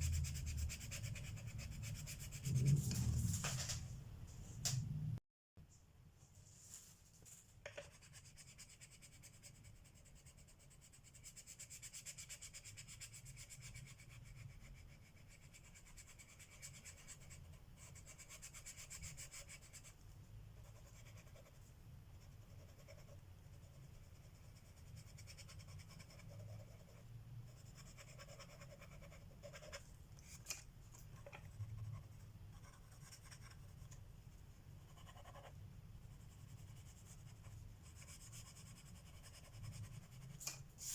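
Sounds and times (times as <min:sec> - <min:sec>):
colored pencil scratching on paper: 0:00.0 - 0:03.7, 0:07.7 - 0:34.0, 0:34.8 - 0:40.9.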